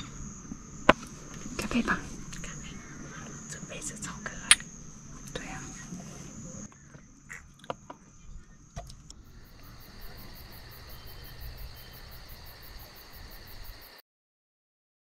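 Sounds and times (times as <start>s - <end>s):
night insects chirping: 0.0s - 14.0s.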